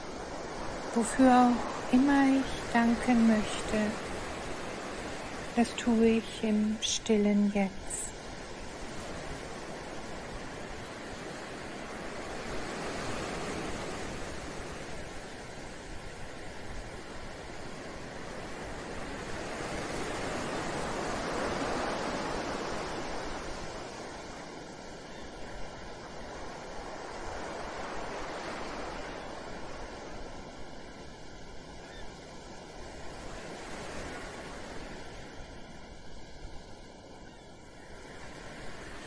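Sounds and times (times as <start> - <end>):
ocean waves washing in: 0.0 - 39.0.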